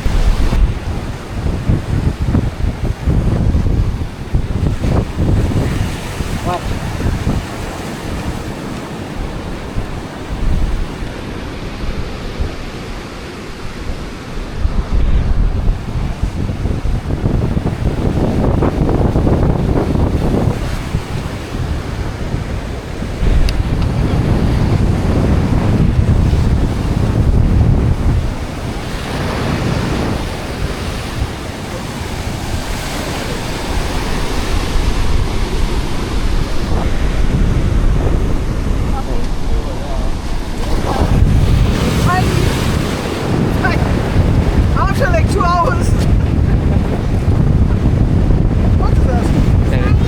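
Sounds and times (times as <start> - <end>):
surf washing: 0.0 - 50.0
wind buffeting microphone: 0.0 - 50.0.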